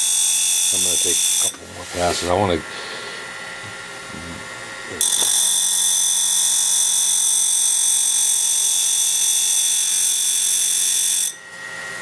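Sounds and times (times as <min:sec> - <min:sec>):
grinding wheel motor hum: 0:00.0 - 0:12.0.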